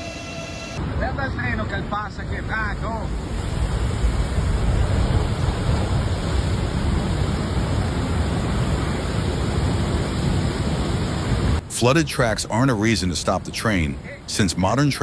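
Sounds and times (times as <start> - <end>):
train churning through water: 1.8 - 15.0.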